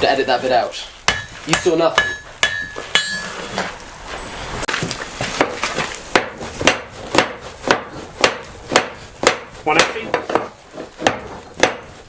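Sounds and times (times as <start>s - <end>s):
hammer blows on hot iron: 0.0s - 3.7s, 5.4s - 12.0s.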